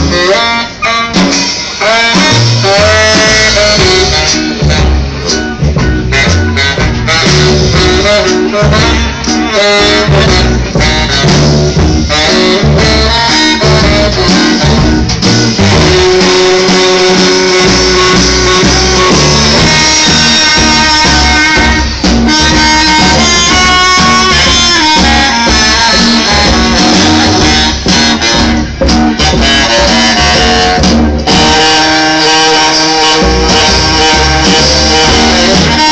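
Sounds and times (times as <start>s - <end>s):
drum kit: 0.0s - 35.9s
saxophones: 0.0s - 35.9s
upright bass: 0.0s - 35.9s.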